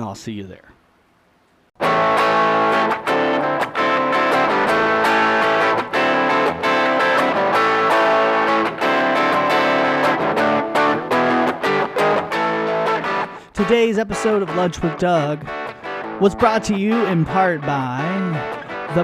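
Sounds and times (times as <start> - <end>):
plucked and strummed guitar: 1.8 - 19.0.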